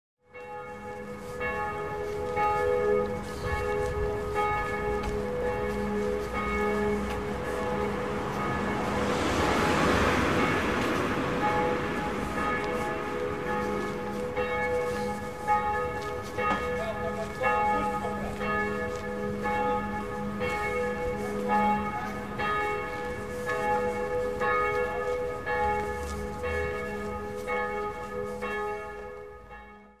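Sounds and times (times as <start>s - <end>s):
church bells pealing: 0.3s - 30.0s.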